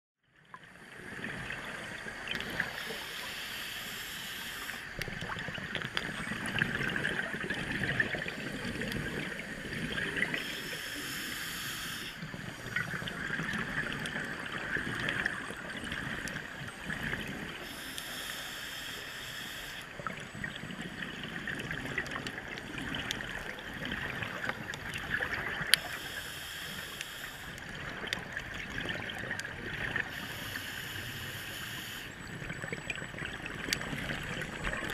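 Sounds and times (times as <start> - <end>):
muffled underwater bubbling: 0.4 - 34.9
hiss of exhaled bubbles: 1.0 - 34.9.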